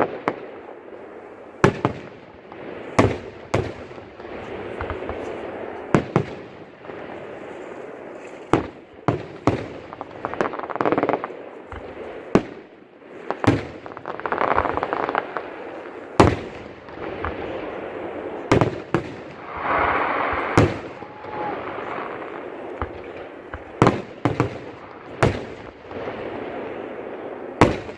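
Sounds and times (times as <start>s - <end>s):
firework crackling: 0.0s - 27.9s.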